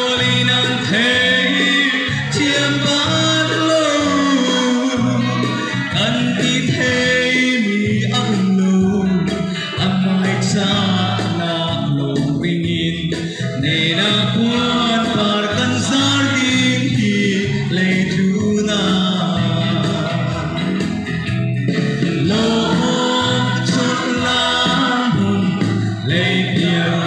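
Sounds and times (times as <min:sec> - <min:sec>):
man singing into microphone: 0:00.0 - 0:20.9, 0:22.0 - 0:27.0
guitar: 0:00.0 - 0:27.0
sustained bass notes: 0:00.0 - 0:27.0.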